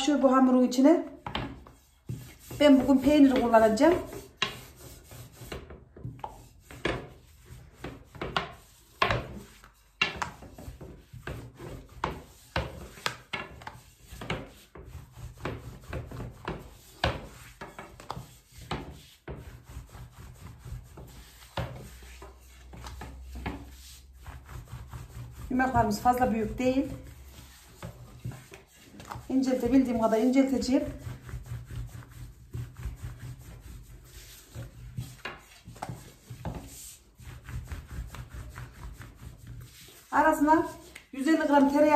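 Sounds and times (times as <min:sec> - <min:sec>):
wooden rolling pin rolling dough: 0:00.0 - 0:41.9.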